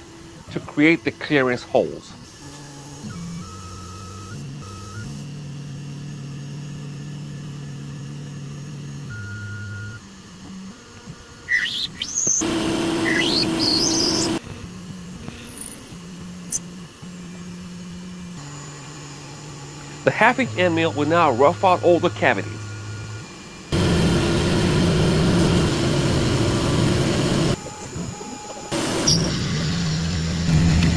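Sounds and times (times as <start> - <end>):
machine hum: 0.0 - 30.9
drill cutting metal with squeals: 1.1 - 6.5, 7.6 - 30.9.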